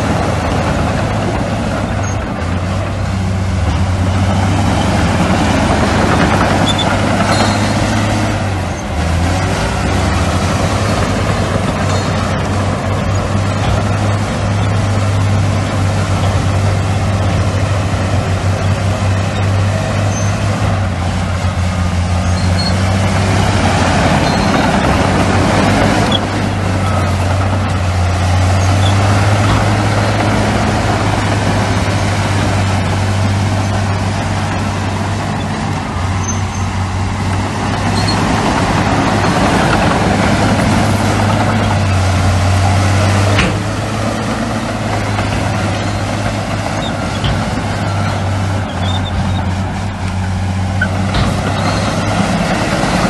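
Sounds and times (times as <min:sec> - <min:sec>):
diesel engine drone: 0:00.0 - 0:53.0
working machinery noise: 0:00.0 - 0:53.0.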